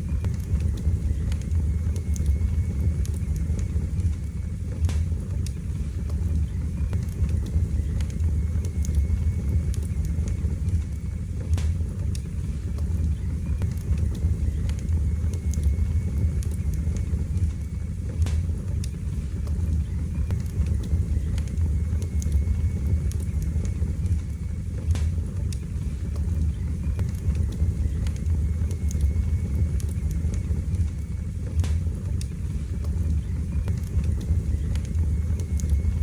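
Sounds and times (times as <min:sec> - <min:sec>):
fire roaring and crackling: 0:00.0 - 0:36.0.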